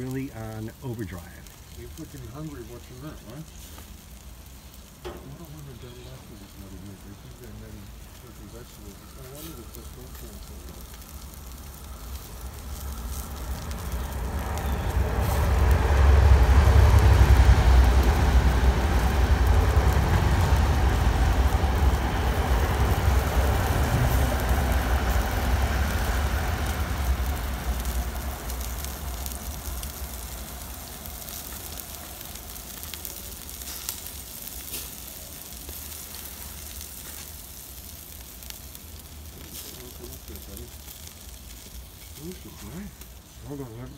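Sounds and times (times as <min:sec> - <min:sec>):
fat sizzling on hot coals: 0:00.0 - 0:43.9
deep rumble: 0:07.1 - 0:42.3.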